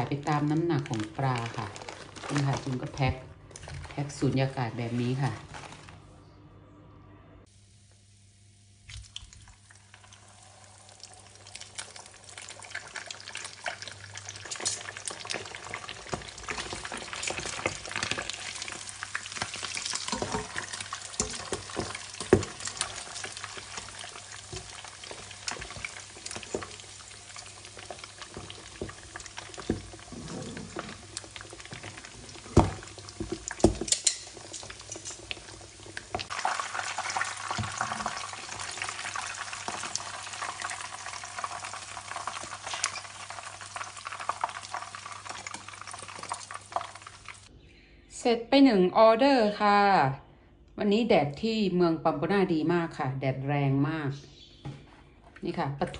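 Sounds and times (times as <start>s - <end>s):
fish deep-frying in oil: 0.0s - 5.4s, 7.5s - 47.5s.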